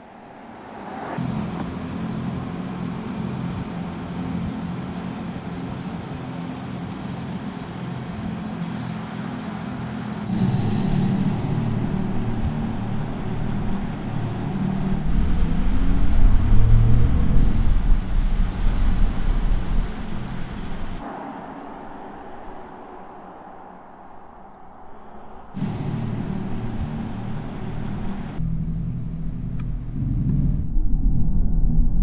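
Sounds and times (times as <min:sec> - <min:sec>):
electric car humming: 0:00.0 - 0:30.8.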